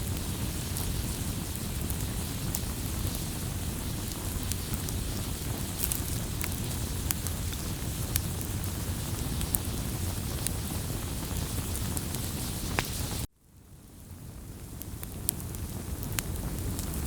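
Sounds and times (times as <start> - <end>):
campfire flames rushing: 0.0 - 13.3, 14.0 - 17.0
burning wood crackling and popping: 0.0 - 17.0.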